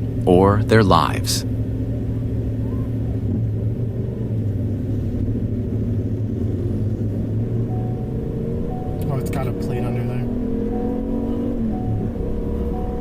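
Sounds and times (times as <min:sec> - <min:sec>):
road noise: 0:00.0 - 0:13.0
vehicle engine hum: 0:00.0 - 0:13.0.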